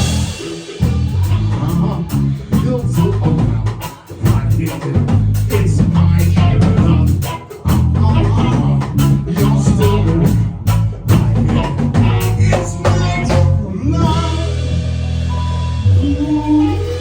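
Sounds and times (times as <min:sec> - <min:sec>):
band music with guitar and drums: 0:00.0 - 0:17.0
strong bass line: 0:00.0 - 0:17.0.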